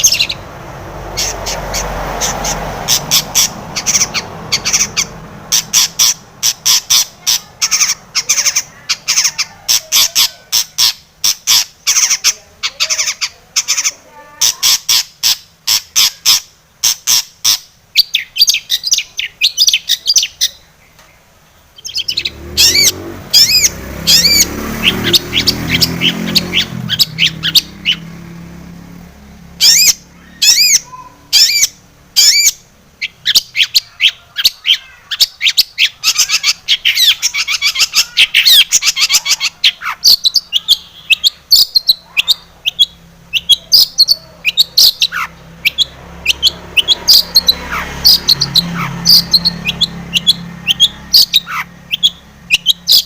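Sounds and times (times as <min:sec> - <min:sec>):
bird singing scratchy chattering song: 0:00.0 - 0:53.0.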